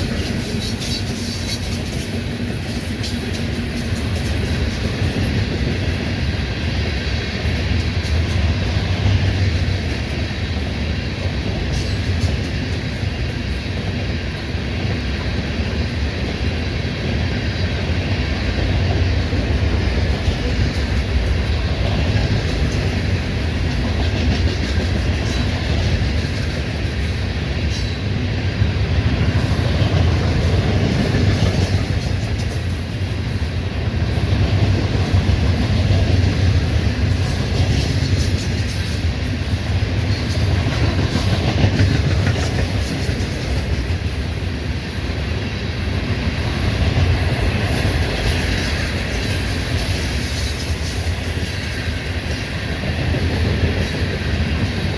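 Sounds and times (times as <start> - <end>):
wheels clacking over rail joints: 0.0 - 16.4, 17.2 - 54.9
train rumbling past: 0.0 - 54.9.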